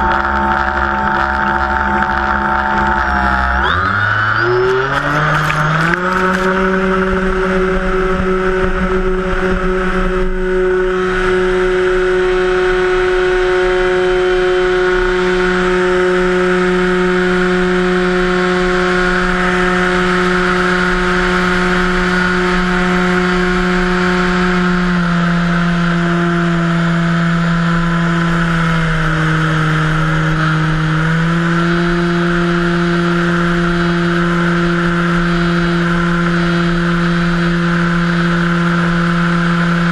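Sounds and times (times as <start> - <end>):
model plane motor buzzing: 0.0 - 39.9.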